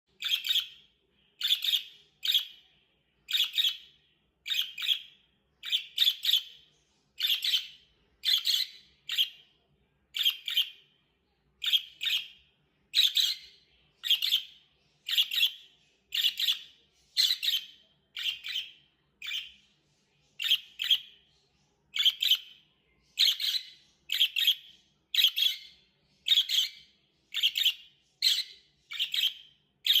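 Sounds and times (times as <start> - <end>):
parrots chirping: 0.1 - 30.0.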